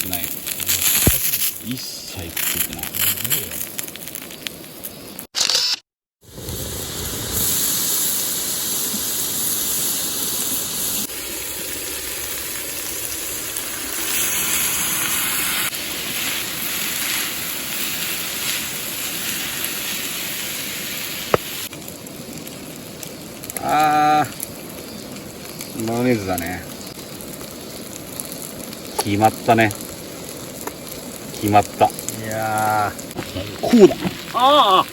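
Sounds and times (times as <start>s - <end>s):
food sizzling in a frying pan: 6.2s - 34.9s.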